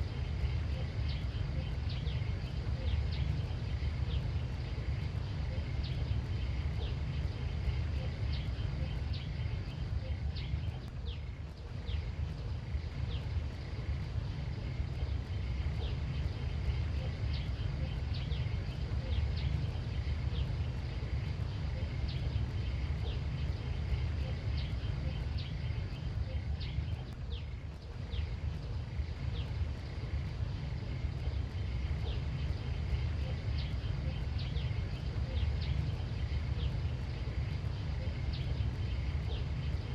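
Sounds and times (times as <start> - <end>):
small bird chirping: 0.0 - 39.9
steady low rumble: 0.0 - 39.9.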